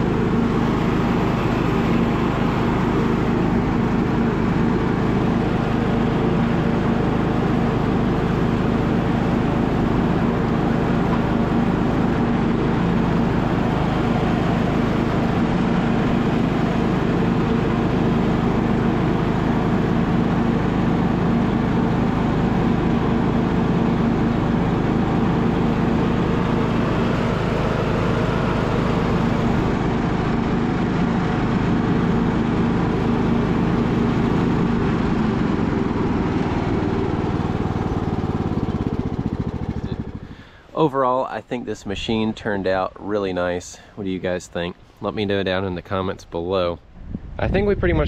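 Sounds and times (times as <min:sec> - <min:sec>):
riding mower engine running: 0:00.0 - 0:48.0.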